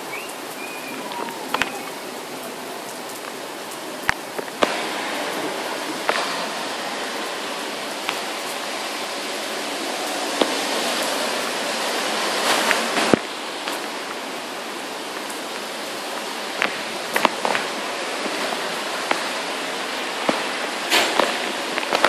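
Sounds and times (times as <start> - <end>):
raindrops clicking close by: 0.0 - 22.0
steady rain: 0.0 - 22.0.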